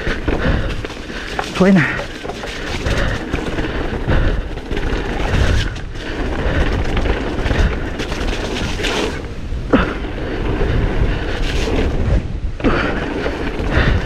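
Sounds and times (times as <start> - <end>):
bike rattling over bumps: 0.0 - 14.0
bike tyres rumbling on dirt: 0.0 - 14.0.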